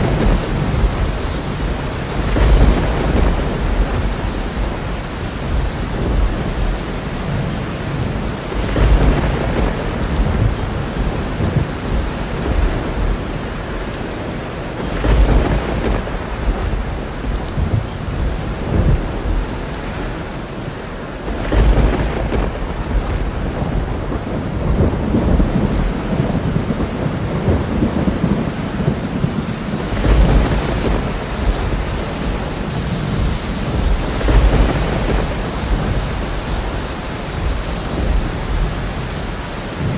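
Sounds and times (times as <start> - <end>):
steady rain falling: 0.0 - 39.9
thunder rolling: 0.0 - 39.9.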